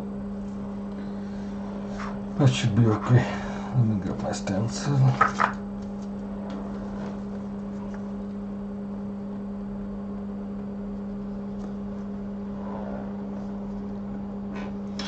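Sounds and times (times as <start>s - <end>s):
workbench equipment humming: 0.0s - 15.0s.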